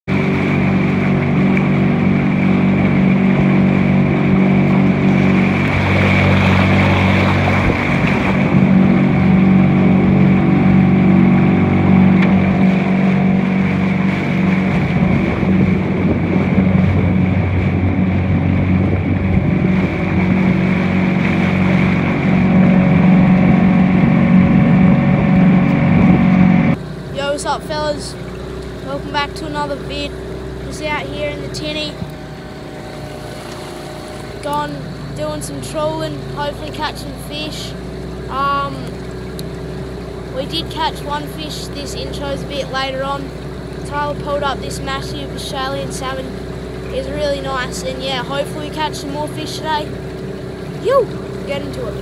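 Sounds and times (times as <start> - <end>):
outboard motor running: 0.0 - 52.0
water rushing past hull: 0.0 - 52.0.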